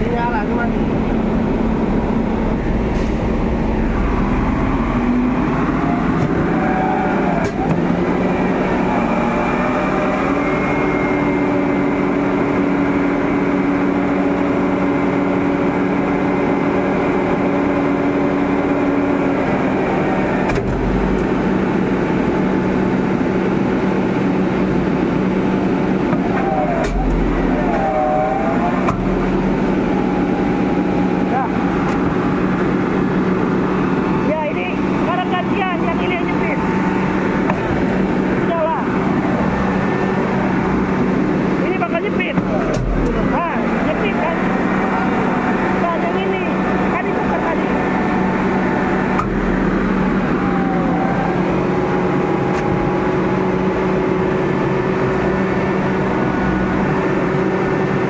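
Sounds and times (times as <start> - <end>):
concrete pump engine drone: 0.0 - 58.0.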